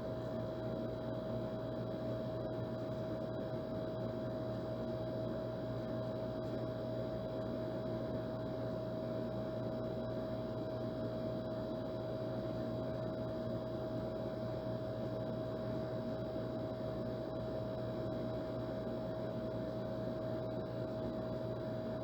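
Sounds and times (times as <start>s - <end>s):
air conditioner hum: 0.0s - 22.0s.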